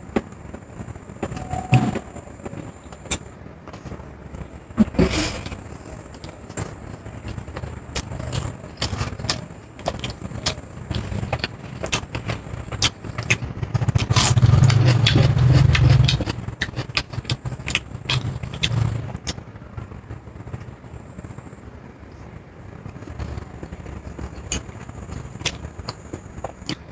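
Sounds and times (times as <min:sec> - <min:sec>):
low rumble of chewing: 0:02.4 - 0:26.9.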